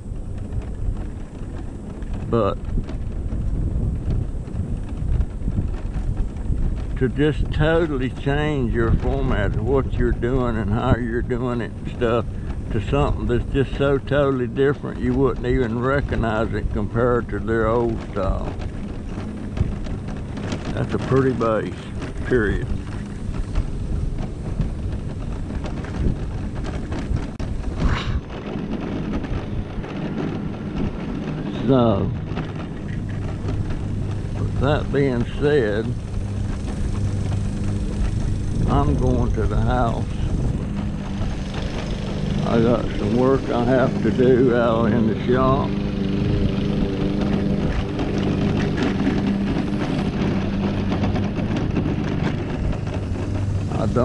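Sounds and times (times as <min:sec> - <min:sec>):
electric scooter motor and tyres: 0:00.0 - 0:54.0
wind rumble on microphone: 0:00.0 - 0:54.0.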